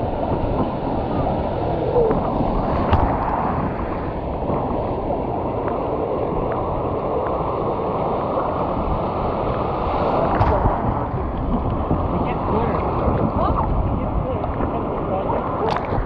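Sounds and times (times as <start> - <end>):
surf rushing: 0.0 - 16.0
whitewater splashing: 0.0 - 16.0
wind buffeting microphone: 0.0 - 16.0.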